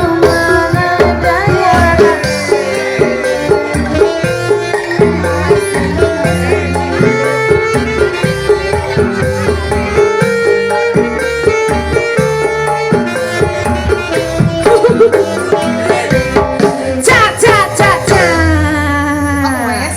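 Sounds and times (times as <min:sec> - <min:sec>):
hand-drum beat: 0:00.0 - 0:18.8
wavering melody line: 0:00.0 - 0:19.7.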